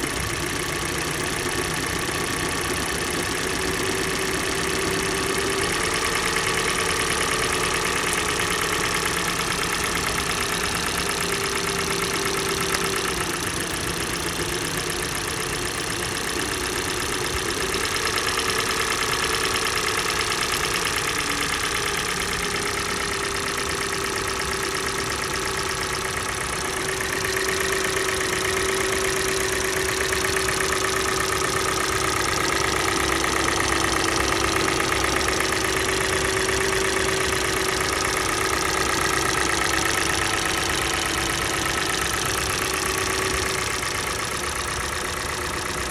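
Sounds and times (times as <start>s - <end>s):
car engine idling: 0.0s - 45.9s
rhythmic engine knock: 0.0s - 45.9s.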